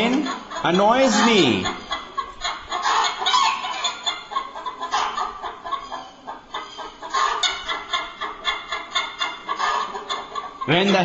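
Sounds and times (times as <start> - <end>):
hen clucking and cackling: 0.0 - 11.0.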